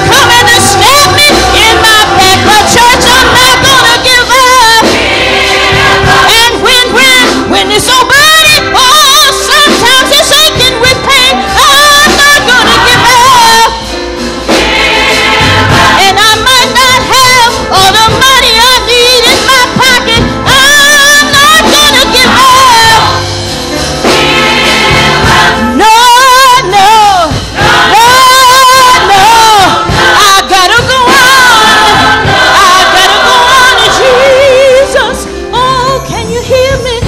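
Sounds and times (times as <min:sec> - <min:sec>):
woman singing gospel lead: 0:00.0 - 0:23.3, 0:24.0 - 0:37.0
choir singing: 0:00.0 - 0:36.1
band playing: 0:00.0 - 0:37.0.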